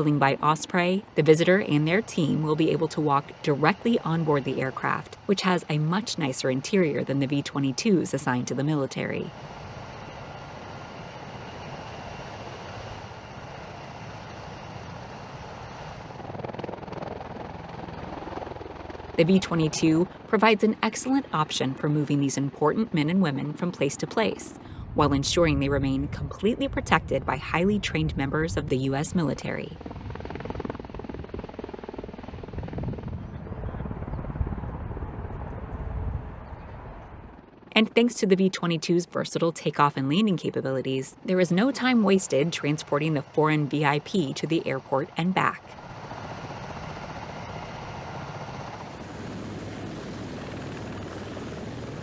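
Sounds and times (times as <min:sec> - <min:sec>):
tiltrotor aircraft engines running: 0:00.0 - 0:52.0.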